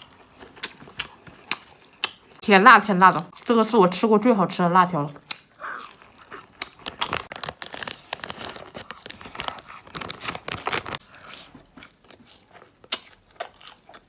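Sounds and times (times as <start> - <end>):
chewing and crunching snack: 0.0 - 2.5, 3.1 - 3.6, 4.9 - 14.0.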